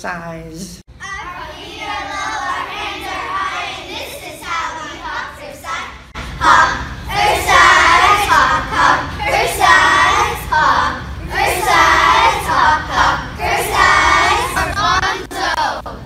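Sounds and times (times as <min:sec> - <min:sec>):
children chanting in unison: 0:01.0 - 0:15.8.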